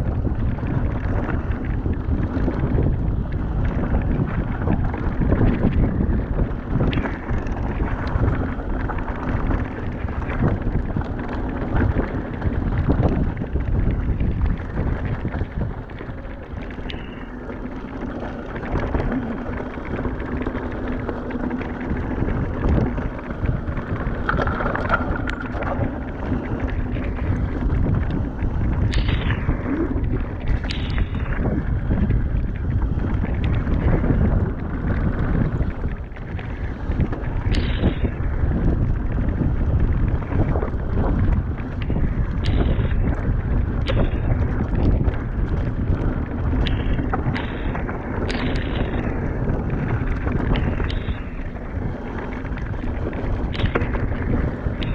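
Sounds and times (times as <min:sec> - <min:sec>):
bike rattling over rough trail: 0:00.0 - 0:54.9
steady hum: 0:00.0 - 0:54.9
wind buffeting microphone: 0:00.0 - 0:54.9.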